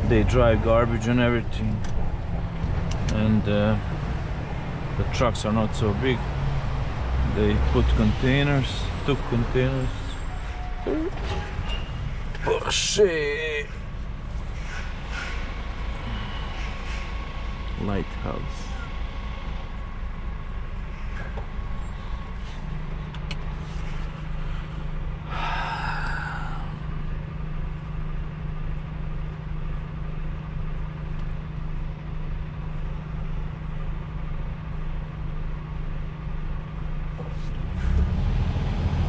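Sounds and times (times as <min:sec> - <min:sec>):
low hum: 0:00.0 - 0:39.0
truck engine running: 0:00.0 - 0:39.0.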